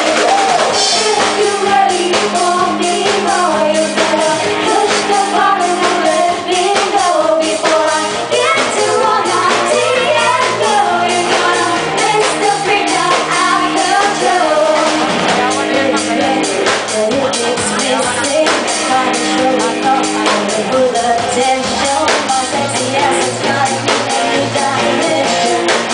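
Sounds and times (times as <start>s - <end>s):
live band playing pop song: 0.0s - 25.9s
woman singing: 0.0s - 25.9s.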